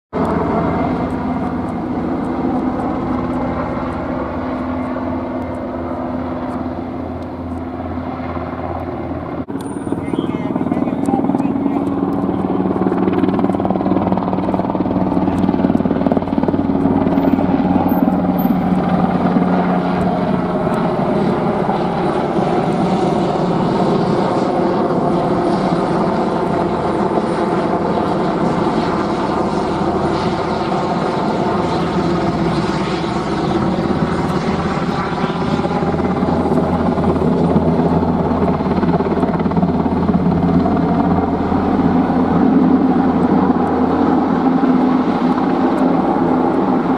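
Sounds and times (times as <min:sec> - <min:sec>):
helicopter flying overhead: 0:00.1 - 0:46.9.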